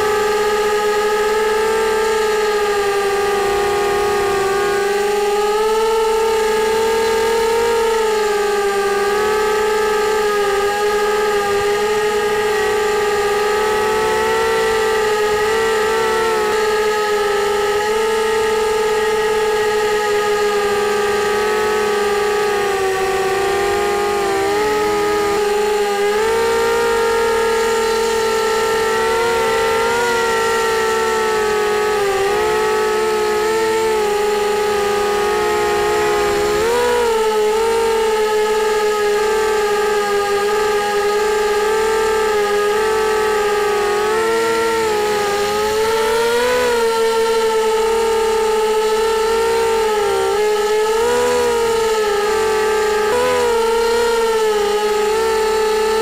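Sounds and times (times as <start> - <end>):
quadcopter propellers whining: 0.0 - 56.0.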